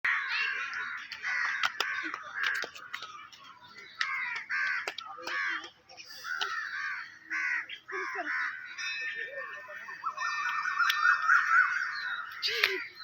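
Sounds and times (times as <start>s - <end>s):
bird calling: 0.1s - 13.0s.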